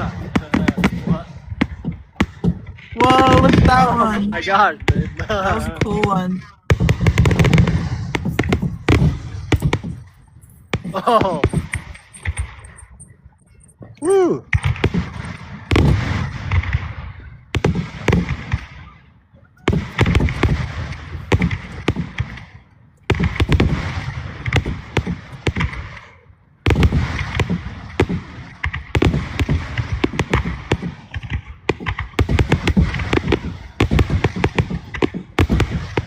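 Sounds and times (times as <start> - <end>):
fireworks banging and crackling: 0.0 - 36.0.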